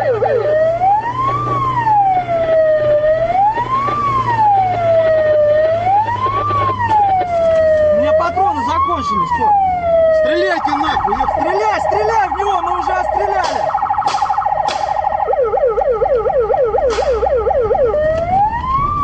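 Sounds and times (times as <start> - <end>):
police siren: 0.0 - 19.0.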